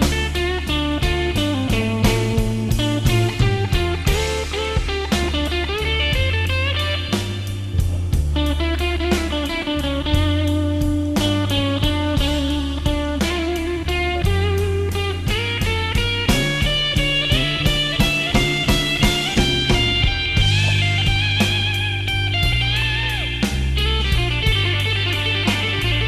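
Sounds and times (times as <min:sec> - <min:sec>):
drum beat: 0:00.0 - 0:26.0
electric guitar: 0:00.0 - 0:26.0.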